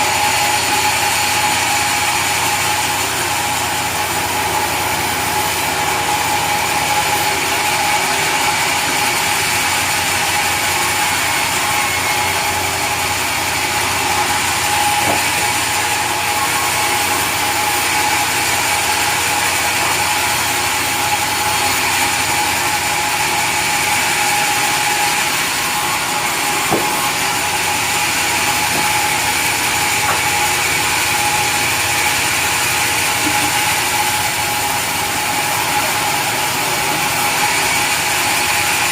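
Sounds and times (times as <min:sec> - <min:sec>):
sawmill saw machinery running: 0:00.0 - 0:38.9.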